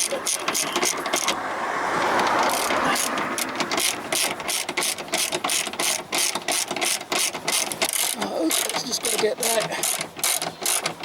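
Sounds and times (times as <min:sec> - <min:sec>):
ratchet wrench clicking: 0:00.0 - 0:01.4, 0:02.4 - 0:11.0.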